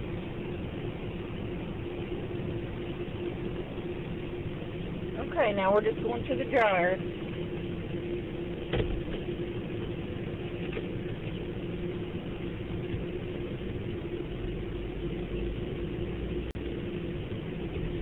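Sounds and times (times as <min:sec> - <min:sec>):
car wash rumble and hum: 0:00.0 - 0:18.0.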